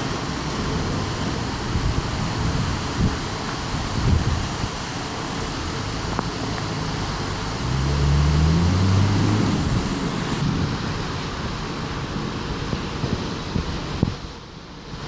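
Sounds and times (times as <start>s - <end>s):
steady rain: 0.0s - 15.0s
wind hiss: 0.0s - 15.0s
wind buffeting microphone: 0.3s - 15.0s
low thunder rumble: 0.6s - 13.3s.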